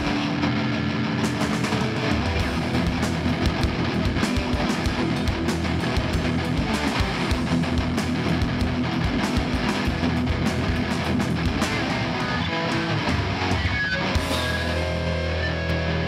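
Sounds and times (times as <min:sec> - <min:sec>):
hardcore band playing live: 0:00.0 - 0:16.0.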